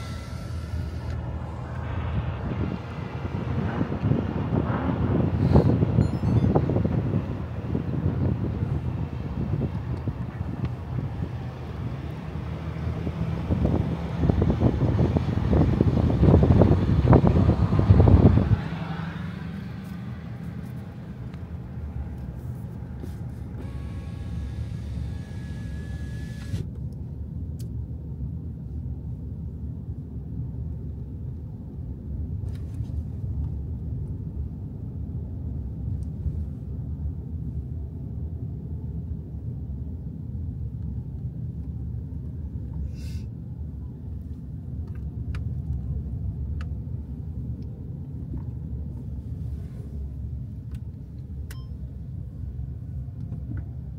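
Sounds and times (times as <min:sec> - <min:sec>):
car interior rumble: 0:00.0 - 0:53.9.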